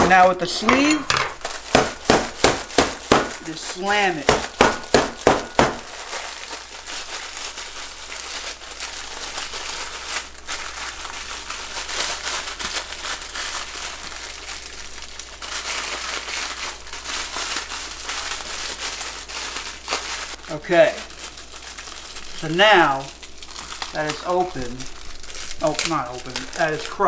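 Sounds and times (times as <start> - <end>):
cracker wrapper crinkling: 0.1 - 27.0.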